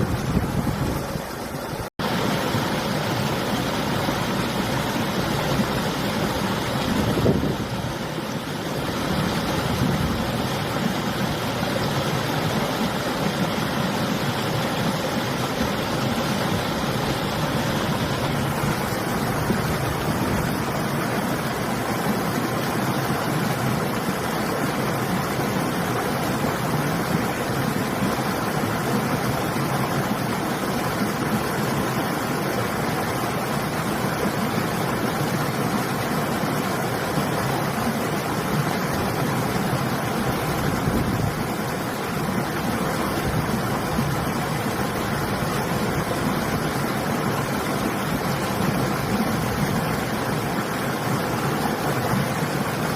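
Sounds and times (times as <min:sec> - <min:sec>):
river water rushing: 0:00.0 - 0:52.9
wind: 0:00.0 - 0:52.9.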